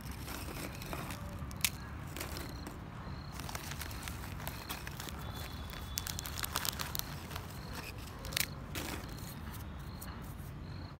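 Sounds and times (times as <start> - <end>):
dry dirt crunching and scraping: 0.0 - 10.4.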